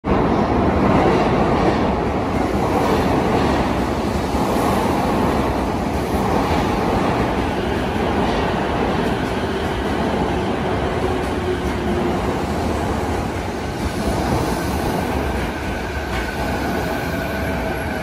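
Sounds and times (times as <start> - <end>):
electric train wheels on rails: 0.1 - 18.0.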